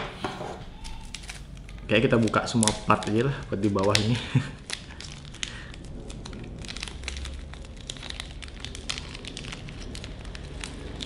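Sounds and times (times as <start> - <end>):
plastic bag crinkling: 0.5 - 11.0.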